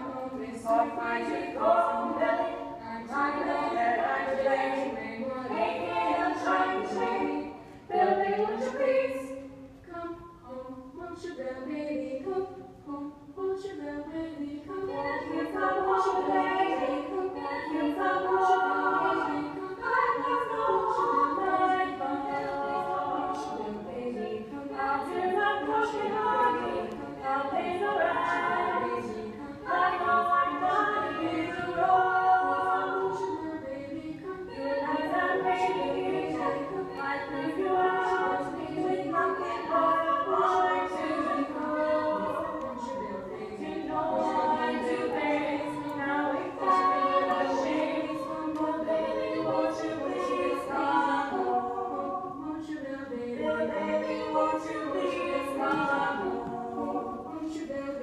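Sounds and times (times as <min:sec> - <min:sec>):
women singing a cappella: 0:00.0 - 0:58.0.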